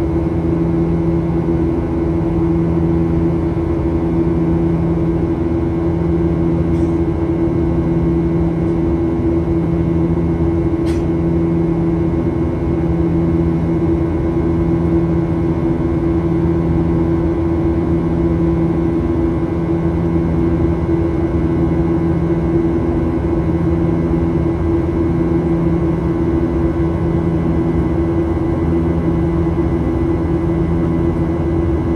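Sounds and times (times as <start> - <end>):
airplane cabin engine rumble: 0.0 - 31.9.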